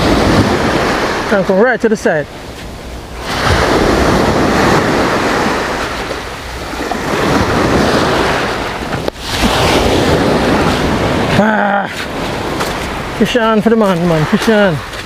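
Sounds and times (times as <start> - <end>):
surf washing over pebbles: 0.0 - 15.0.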